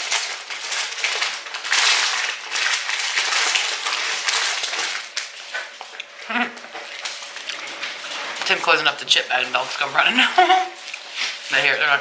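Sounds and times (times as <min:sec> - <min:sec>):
chip bag crinkling: 0:00.0 - 0:12.0.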